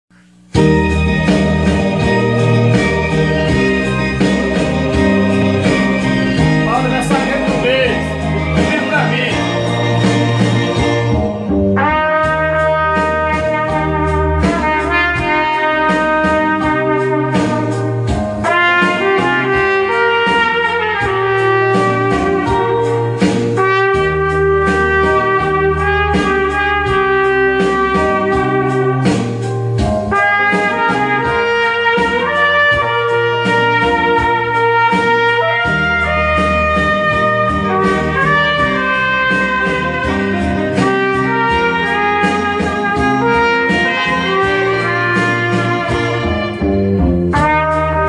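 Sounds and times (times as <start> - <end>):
bass line accompaniment: 0.1 - 48.0
trumpet playing slow melody: 0.6 - 48.0.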